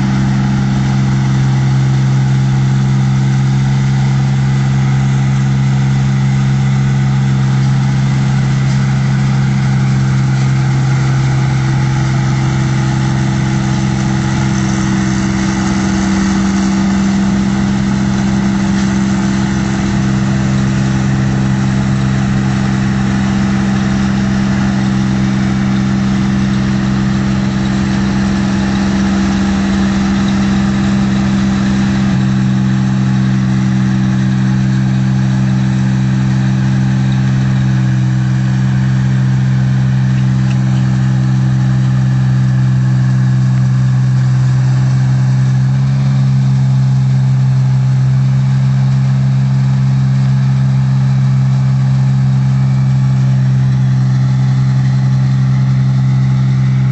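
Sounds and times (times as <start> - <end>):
combine harvester engine droning: 0.0 - 56.9.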